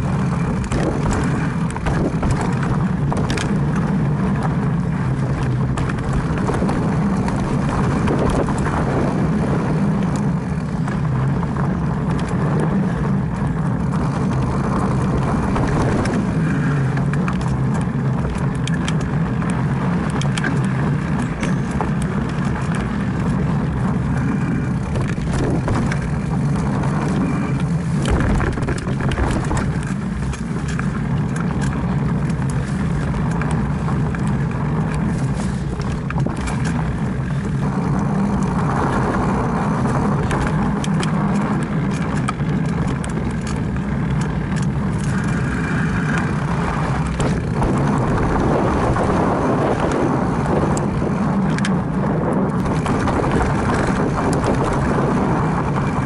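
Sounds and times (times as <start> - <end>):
bike clicks and rattles: 0.0 - 56.0
wind and tyre rumble: 0.0 - 56.0.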